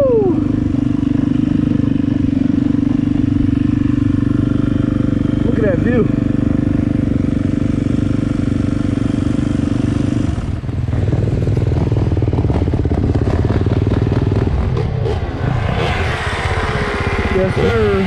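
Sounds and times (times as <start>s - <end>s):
dirt bike engines idling: 0.0s - 18.0s.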